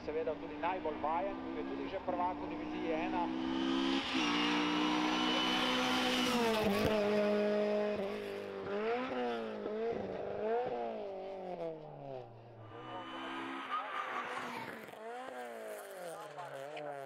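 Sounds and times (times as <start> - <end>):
race car engine at full throttle: 0.0 - 17.0
gear changes: 0.3 - 17.0.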